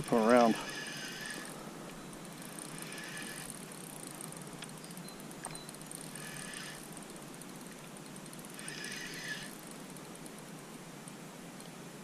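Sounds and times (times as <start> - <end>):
fishing reel whirring: 0.0 - 10.6.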